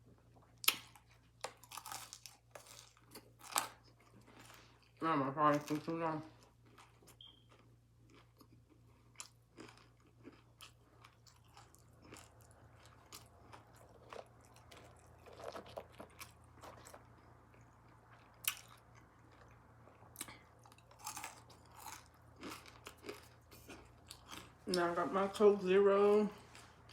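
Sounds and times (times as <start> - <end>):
person chewing food: 0.3 - 5.0, 6.4 - 24.7, 26.4 - 26.9.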